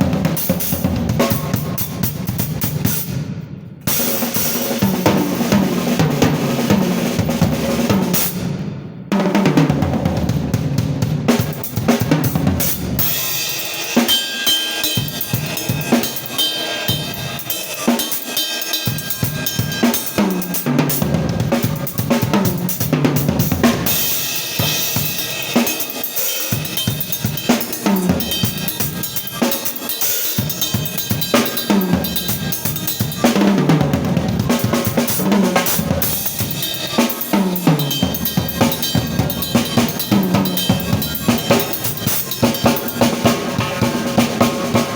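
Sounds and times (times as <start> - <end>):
drum kit solo: 0.0 - 44.9.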